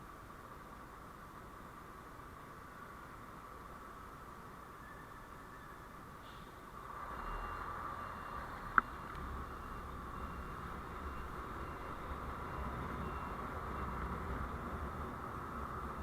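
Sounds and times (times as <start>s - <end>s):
vehicle road noise hum: 0.0s - 16.0s.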